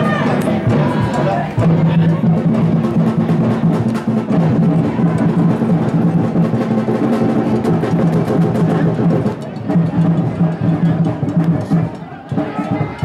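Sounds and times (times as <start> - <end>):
rapid drum hits: 0.0 - 13.0.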